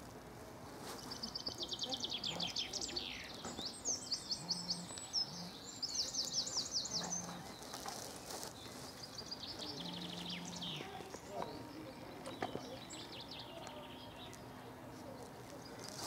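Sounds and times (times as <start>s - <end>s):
small songbird singing: 1.0s - 16.0s.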